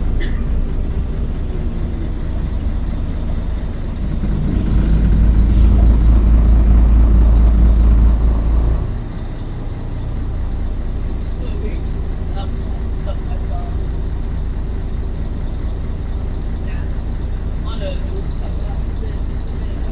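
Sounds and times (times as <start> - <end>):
bus diesel engine running: 0.0 - 19.9.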